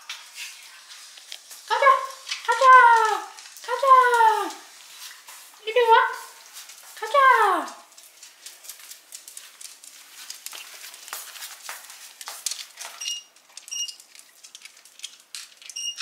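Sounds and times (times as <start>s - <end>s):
dog claws clicking on floor: 0.9s - 4.2s, 6.4s - 16.0s.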